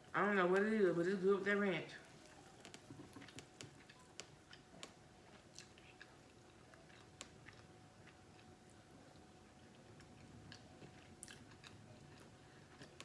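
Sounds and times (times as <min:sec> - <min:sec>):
person chewing meat: 0:02.2 - 0:13.0.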